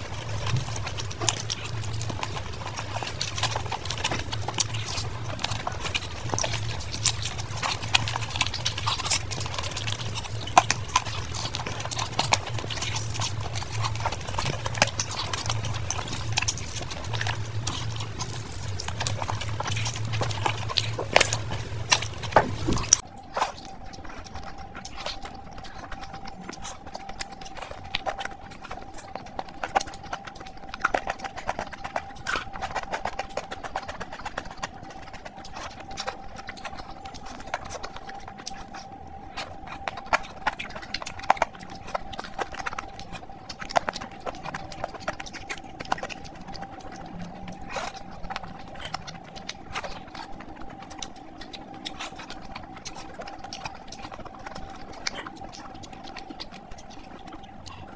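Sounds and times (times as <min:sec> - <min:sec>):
chewing and lip-smacking: 0:00.0 - 0:57.9.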